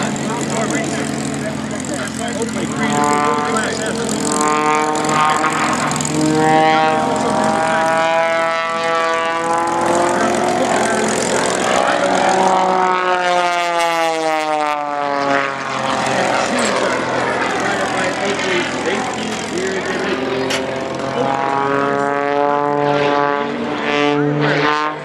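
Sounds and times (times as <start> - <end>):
propeller plane engine taxiing: 0.0 - 25.0.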